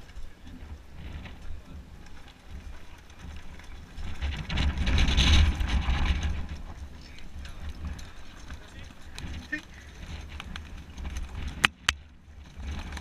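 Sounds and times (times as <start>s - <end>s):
bike tyres crunching on gravel: 0.0s - 13.0s
wind rumble on microphone: 0.0s - 13.0s.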